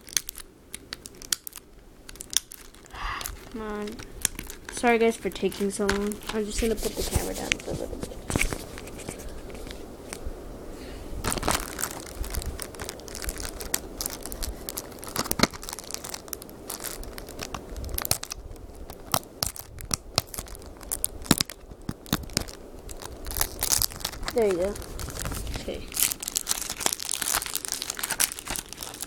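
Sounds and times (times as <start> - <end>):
packaging crinkling and tearing: 0.0 - 10.2, 11.2 - 29.0
sharp crackles and snaps: 0.0 - 10.3, 11.2 - 29.0.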